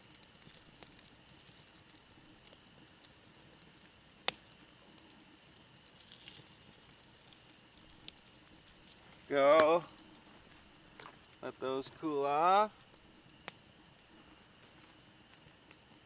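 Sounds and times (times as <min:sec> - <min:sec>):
oil sizzling in frying pan: 0:00.0 - 0:13.6
tiny crackles: 0:00.0 - 0:16.0.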